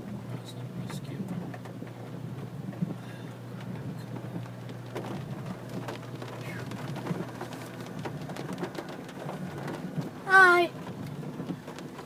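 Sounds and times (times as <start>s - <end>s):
low hum inside a car: 0.0s - 12.0s
light crackling and ticking clicks: 0.3s - 12.0s.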